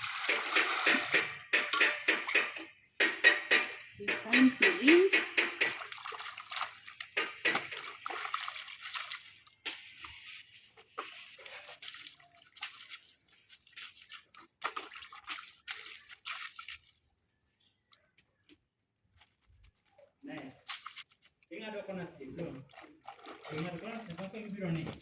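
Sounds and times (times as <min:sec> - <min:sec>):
cloth splashing in water: 0:00.0 - 0:02.6, 0:04.9 - 0:17.2, 0:19.2 - 0:25.0.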